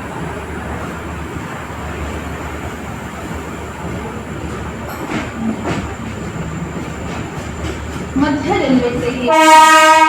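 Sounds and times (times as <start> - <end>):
passenger train rumbling: 0.0 - 10.0.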